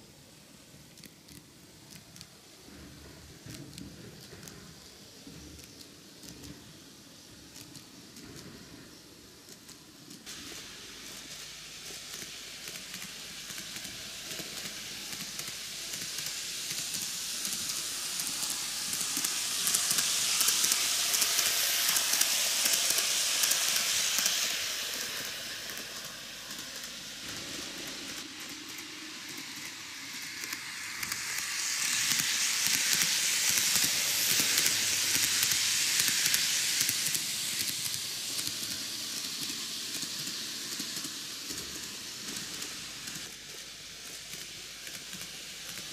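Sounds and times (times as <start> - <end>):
model train wheels rolling on rails: 0.0 - 45.9.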